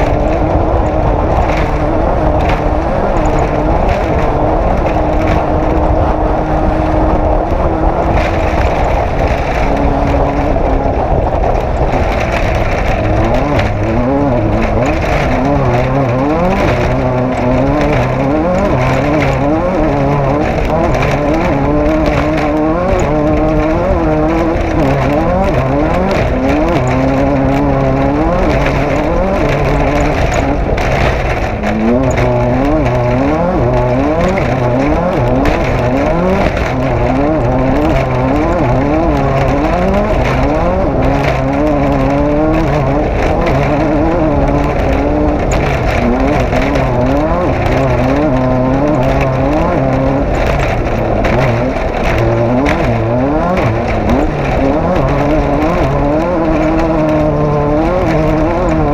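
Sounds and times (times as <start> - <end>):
race vehicle engine revving: 0.0 - 58.9.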